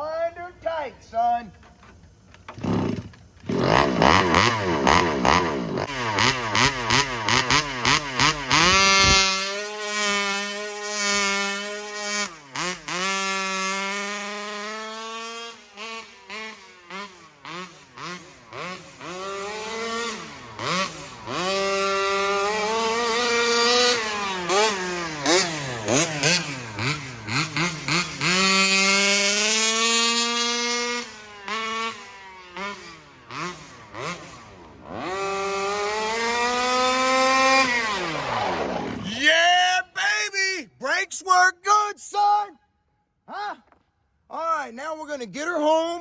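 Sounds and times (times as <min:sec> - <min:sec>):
two-stroke rc car engine revving: 0:02.4 - 0:39.3.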